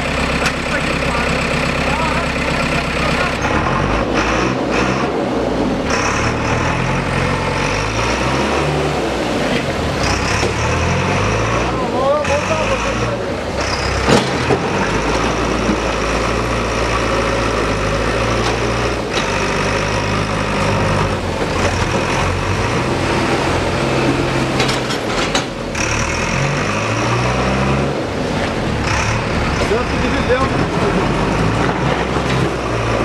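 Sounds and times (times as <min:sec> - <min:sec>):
heavy machinery engine running: 0:00.0 - 0:33.0.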